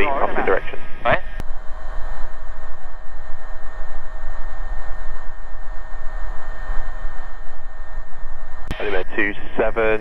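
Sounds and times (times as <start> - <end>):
helicopter cabin drone: 0.0 - 10.0
turbine whine: 0.0 - 10.0.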